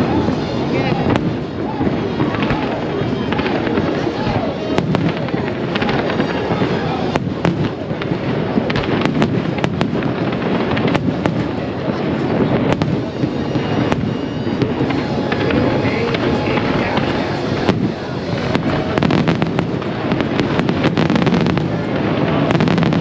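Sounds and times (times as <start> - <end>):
constant din: 0.0 - 23.0
fireworks bangs and crackles: 0.0 - 23.0.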